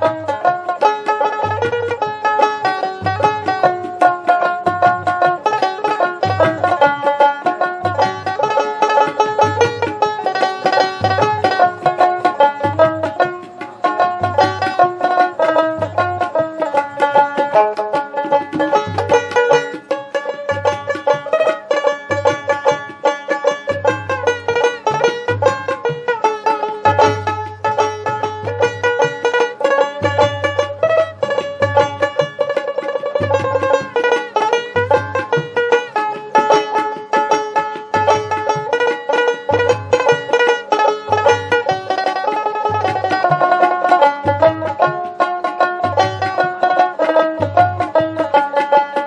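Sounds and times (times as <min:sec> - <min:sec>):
fast-picked banjo: 0:00.0 - 0:49.0.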